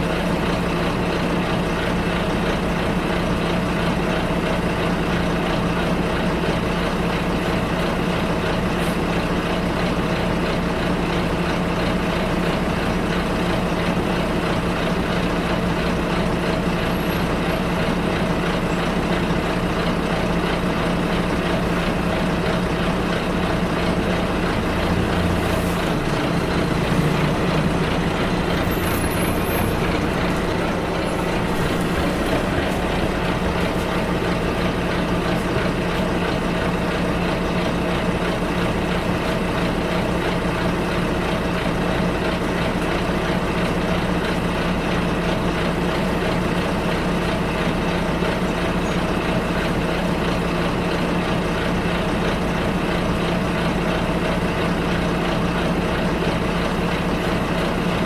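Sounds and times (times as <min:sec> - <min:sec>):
bus engine running: 0:00.0 - 0:58.0
road and cabin noise: 0:00.0 - 0:58.0.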